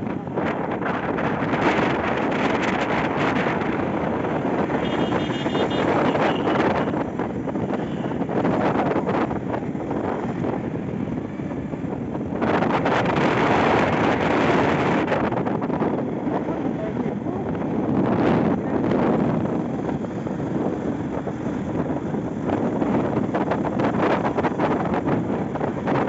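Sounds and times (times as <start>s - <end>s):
passing vehicles: 0.0s - 26.0s
wind buffeting microphone: 0.0s - 26.0s.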